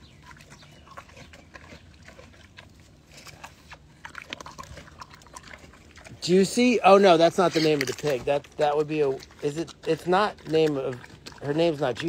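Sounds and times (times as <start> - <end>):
pig crunching watermelon: 0.0 - 12.0.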